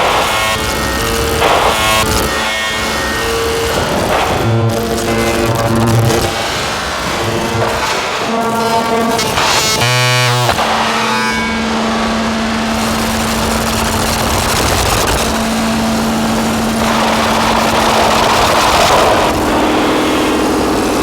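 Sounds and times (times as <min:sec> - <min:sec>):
distorted synthesizer drone: 0:00.0 - 0:21.0.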